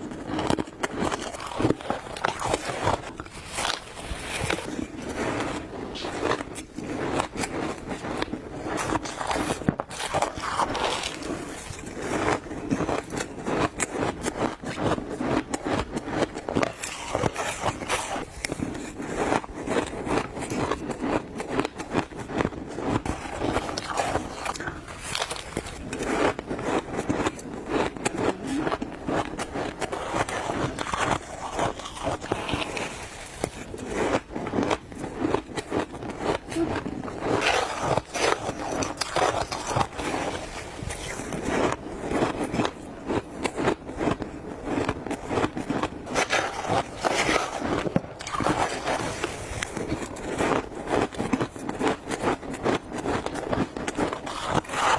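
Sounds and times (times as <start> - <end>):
person chewing crunchy ice: 0.0 - 54.9.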